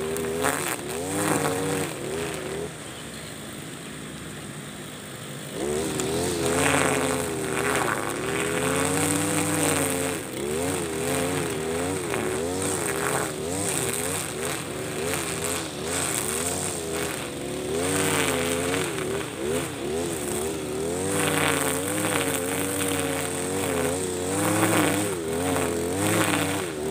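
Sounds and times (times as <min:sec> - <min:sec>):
brush cutter engine revving: 0:00.0 - 0:26.9
nylon line cutting grass: 0:00.0 - 0:26.9.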